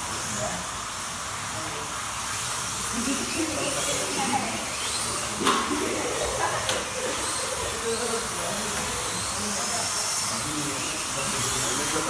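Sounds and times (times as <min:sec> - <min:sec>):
slot car motors whining: 0:00.0 - 0:12.0.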